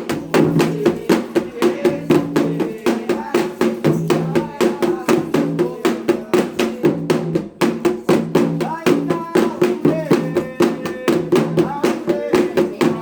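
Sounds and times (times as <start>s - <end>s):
hand drums driving rhythm: 0.0s - 13.0s
voices singing a chant: 0.0s - 13.0s.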